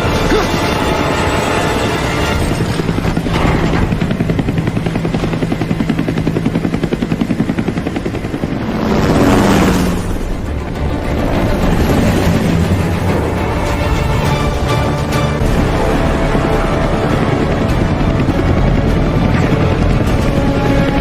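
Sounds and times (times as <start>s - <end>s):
helicopter rotor chopping: 0.0s - 21.0s.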